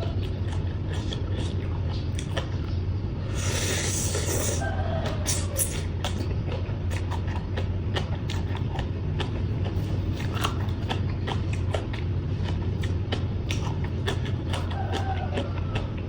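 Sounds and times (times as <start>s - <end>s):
person chewing crunchy food: 0.0s - 2.7s, 3.3s - 16.0s
steady low hum: 0.0s - 16.0s.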